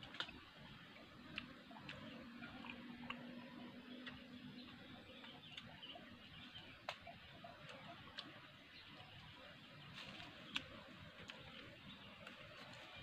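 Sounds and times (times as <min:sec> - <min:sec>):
faint low hum: 0:00.0 - 0:13.0
man chewing with mouth clicks: 0:00.0 - 0:13.0.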